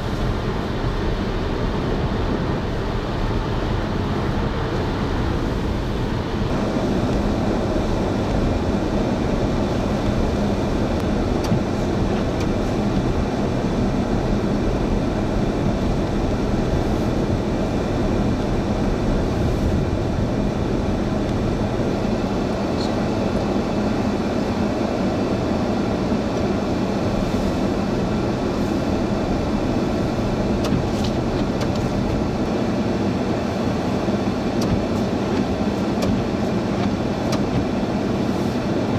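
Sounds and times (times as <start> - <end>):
road noise: 0.0 - 38.9
vehicle engine noise: 0.0 - 38.9.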